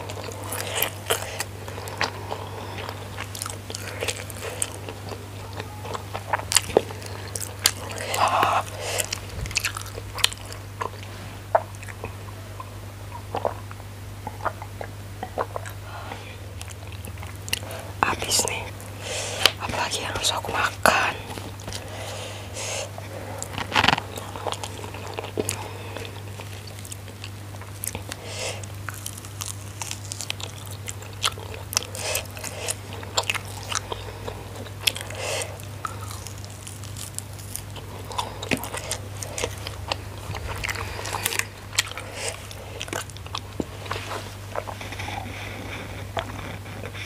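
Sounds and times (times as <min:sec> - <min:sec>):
chewing and crunching food: 0:00.0 - 0:47.0.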